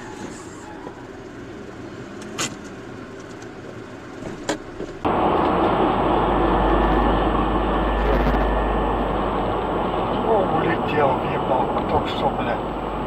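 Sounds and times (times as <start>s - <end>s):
car cabin and road noise: 0.0s - 13.0s
road and wind noise at speed: 0.0s - 13.0s.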